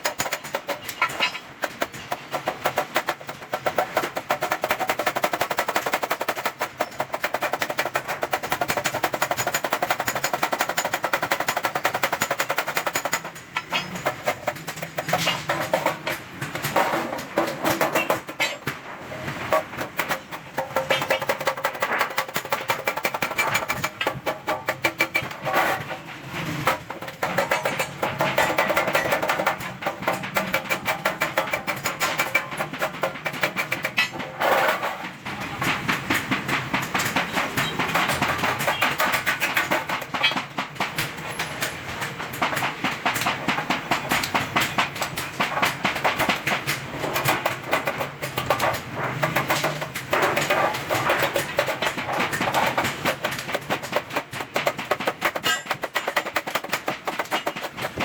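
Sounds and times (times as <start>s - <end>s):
hammer on steel sheet: 6.6s - 58.0s.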